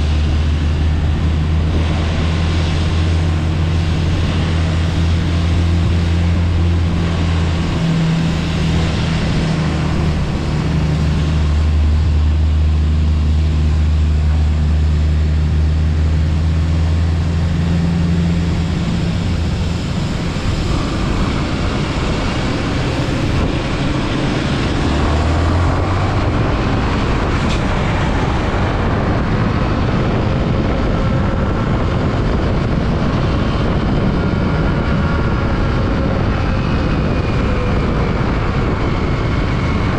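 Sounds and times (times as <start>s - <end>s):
road noise: 0.0s - 39.9s
wind rush: 0.0s - 39.9s.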